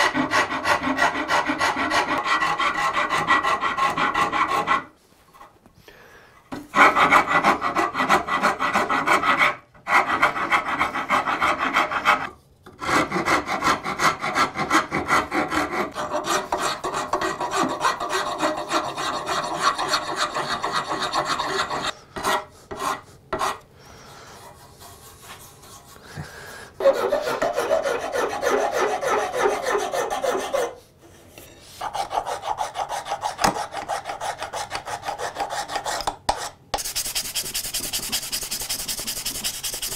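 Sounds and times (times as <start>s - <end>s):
hand file rasping wood: 0.0s - 4.9s, 6.7s - 23.6s, 26.8s - 30.8s, 31.8s - 39.9s.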